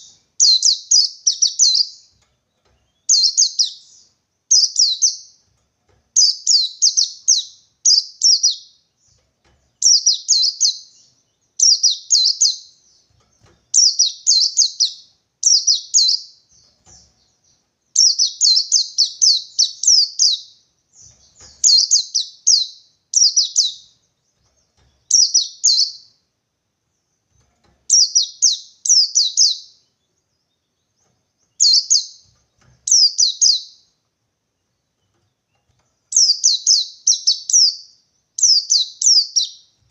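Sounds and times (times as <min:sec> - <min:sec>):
bird chirping high phrases: 0:00.0 - 0:05.4, 0:06.2 - 0:09.2, 0:09.8 - 0:26.3, 0:27.9 - 0:34.0, 0:36.0 - 0:39.9.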